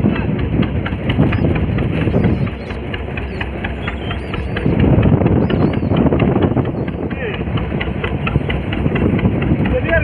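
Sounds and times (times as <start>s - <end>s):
boat engine idling: 0.0s - 10.0s
seabirds calling: 0.1s - 10.0s.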